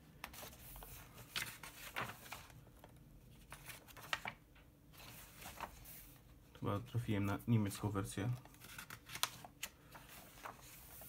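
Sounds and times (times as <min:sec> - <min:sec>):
paper pages rustling: 0:00.2 - 0:06.2, 0:07.3 - 0:11.0.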